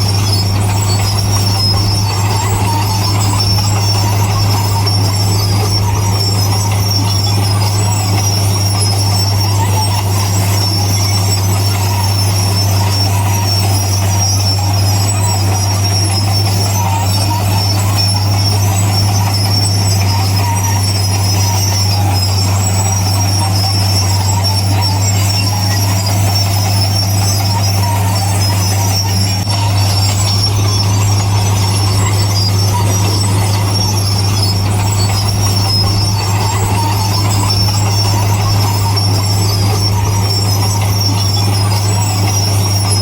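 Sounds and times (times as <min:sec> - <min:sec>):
bulldozer diesel engine drone: 0:00.0 - 0:43.0
high squeal: 0:00.0 - 0:43.0.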